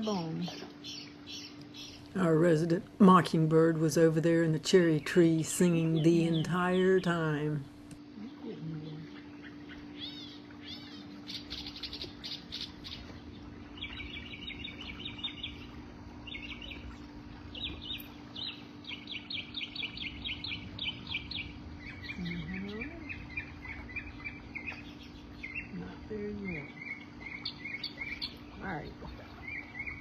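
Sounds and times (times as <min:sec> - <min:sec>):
mockingbird singing: 0:00.0 - 0:07.6, 0:08.2 - 0:30.0.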